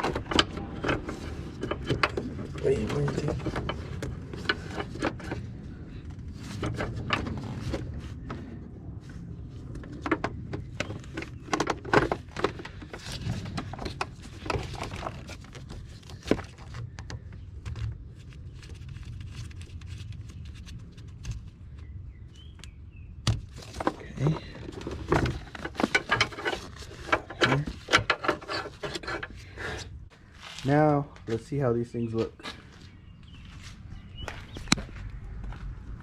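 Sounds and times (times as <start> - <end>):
hands rustling parts: 0.0 - 22.0, 23.4 - 30.9.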